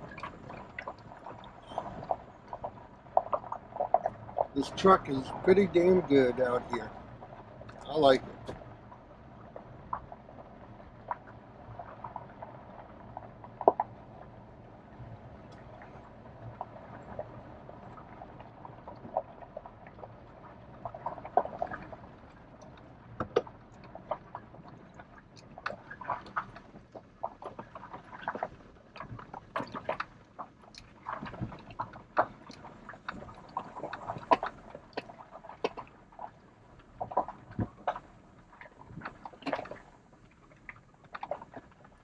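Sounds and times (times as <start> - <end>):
low rumble of engine and tyres: 0.0 - 42.0.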